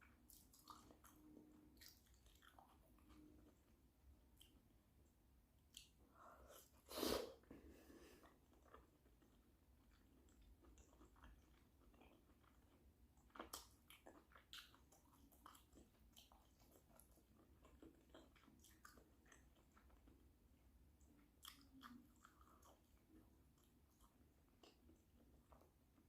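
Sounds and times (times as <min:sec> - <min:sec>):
person chewing with wet smacks: 0:00.0 - 0:26.0.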